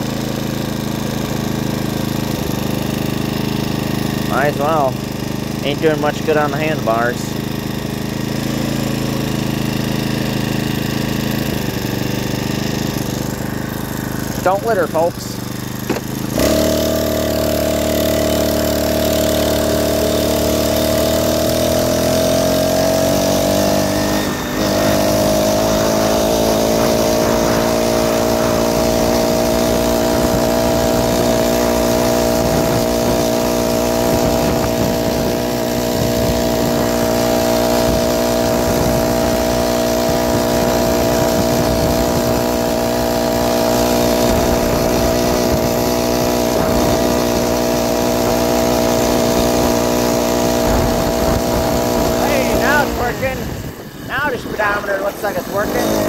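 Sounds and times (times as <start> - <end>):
motorized bicycle engine running: 0.0 - 56.0.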